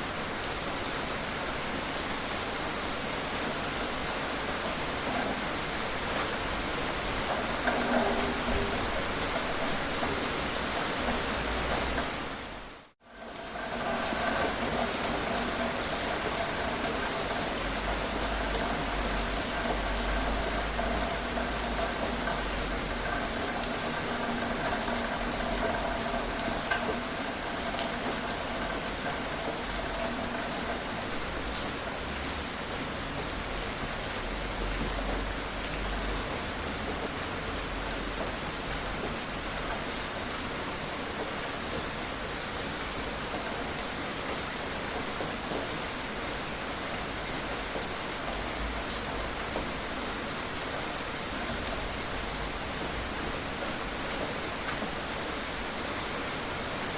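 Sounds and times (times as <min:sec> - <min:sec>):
rain hissing on surfaces: 0:00.0 - 0:56.9
raindrops ticking: 0:03.5 - 0:56.9.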